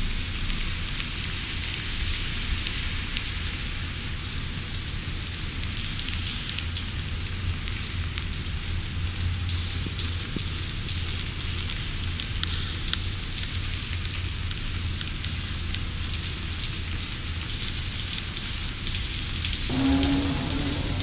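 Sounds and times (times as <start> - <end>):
rain on pavement: 0.0 - 21.0.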